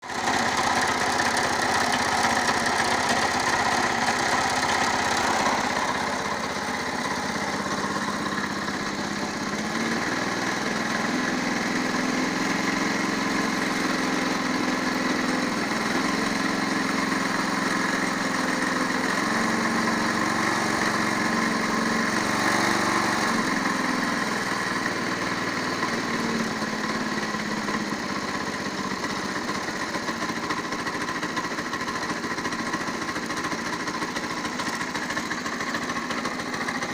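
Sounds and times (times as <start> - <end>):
engine knock: 0.0 - 36.9
walk-behind tractor engine running: 0.0 - 36.9.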